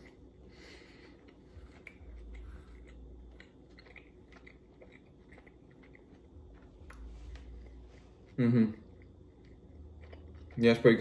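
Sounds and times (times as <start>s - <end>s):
chewing with mouth closed: 0.0s - 11.0s.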